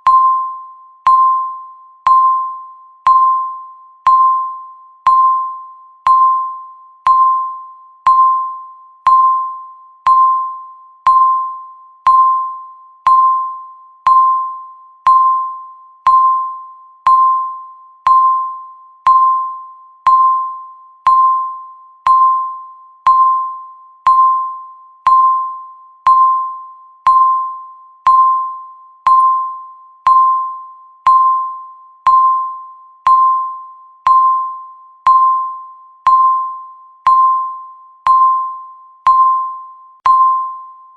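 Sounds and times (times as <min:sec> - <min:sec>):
countdown timer beeping: 0:00.0 - 0:40.8.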